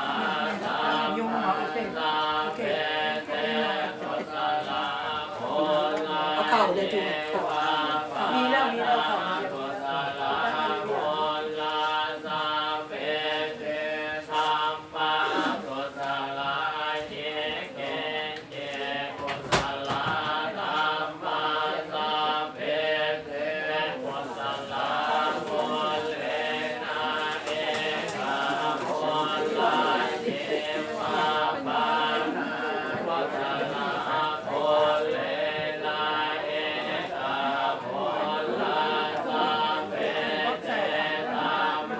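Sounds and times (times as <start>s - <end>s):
group of voices chanting: 0.0s - 41.9s.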